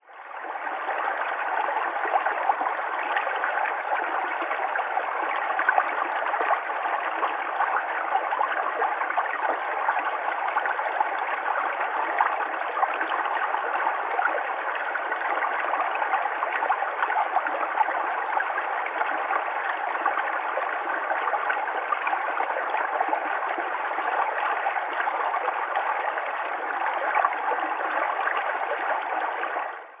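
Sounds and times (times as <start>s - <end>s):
stream trickling over stones: 0.3s - 30.0s.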